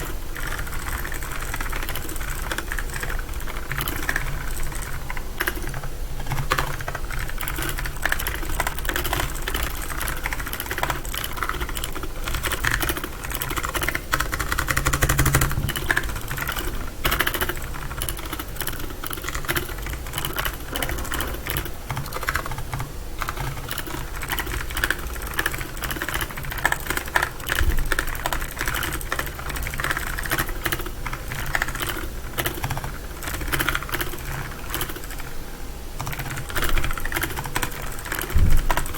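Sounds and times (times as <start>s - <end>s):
clicky mechanical keyboard typing: 0.0s - 35.4s, 36.0s - 38.9s.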